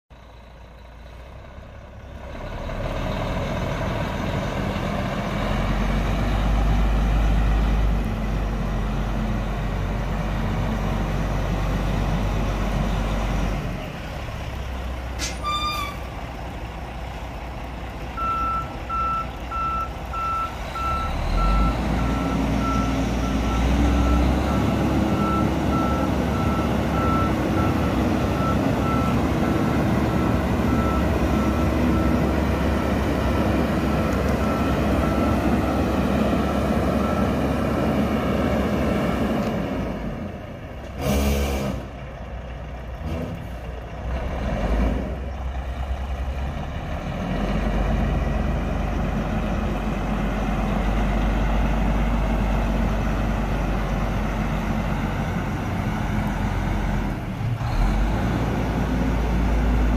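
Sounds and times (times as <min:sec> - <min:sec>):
diesel truck engine running: 0:00.1 - 0:59.9.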